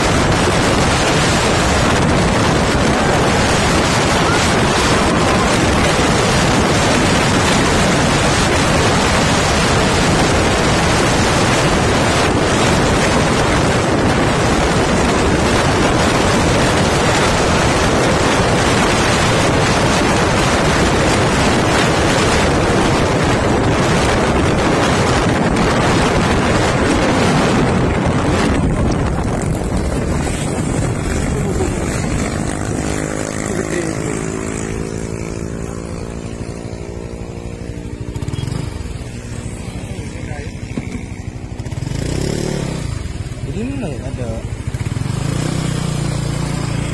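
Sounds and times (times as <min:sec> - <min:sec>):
engine running: 0:00.0 - 0:46.9
wind buffeting microphone: 0:00.0 - 0:46.9.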